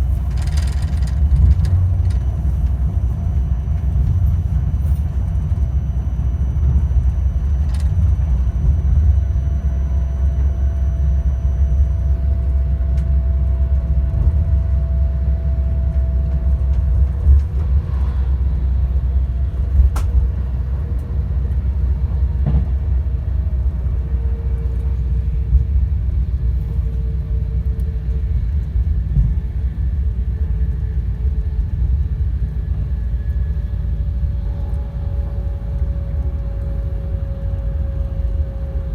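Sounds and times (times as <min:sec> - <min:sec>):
train wheels rumbling: 0:00.0 - 0:38.9.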